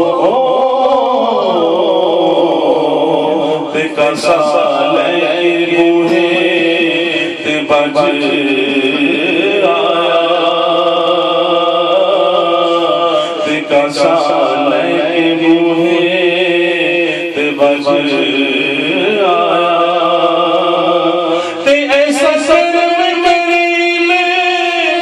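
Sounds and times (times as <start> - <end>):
man singing devotional chant: 0.0 - 25.0.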